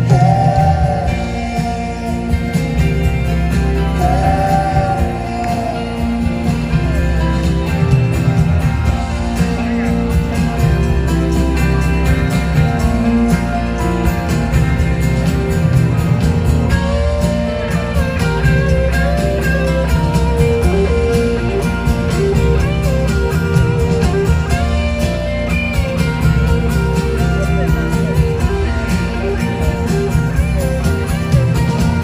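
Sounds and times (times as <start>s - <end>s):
drums: 0.0s - 32.0s
electric guitar: 0.0s - 32.0s
live rock band playing: 0.0s - 32.0s
strummed acoustic guitar: 0.0s - 32.0s.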